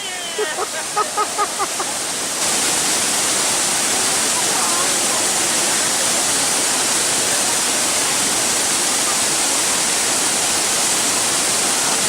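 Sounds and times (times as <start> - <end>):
waterfall crashing into pool: 0.0 - 12.0.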